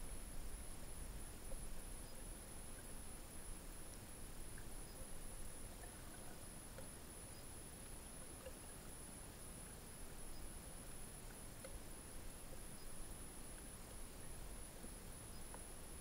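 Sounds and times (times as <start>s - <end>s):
tiny ticks: 1.5s - 8.9s, 9.6s - 11.9s, 12.5s - 15.7s.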